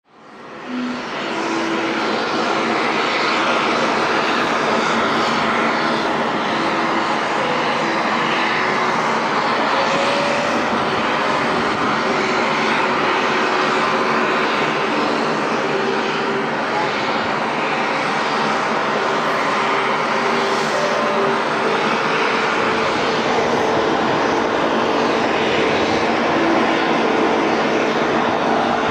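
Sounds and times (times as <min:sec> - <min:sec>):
helicopter turbine engines running: 0:00.1 - 0:28.9
faint steady tones: 0:00.2 - 0:28.9.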